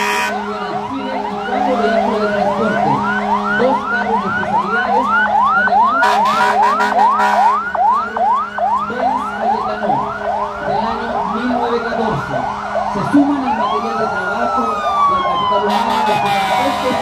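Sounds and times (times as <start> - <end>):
siren fast yelp: 0.0 - 17.0
siren slow wail: 0.0 - 17.0.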